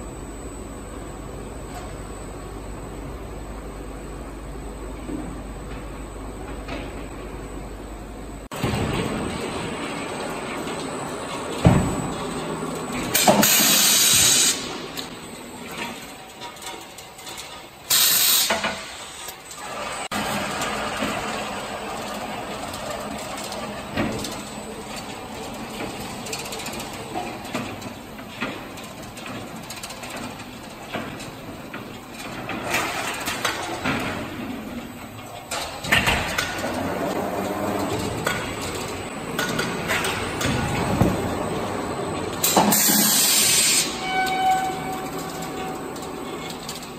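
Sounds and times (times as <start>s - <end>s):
conveyor and roller noise: 0.0s - 46.9s.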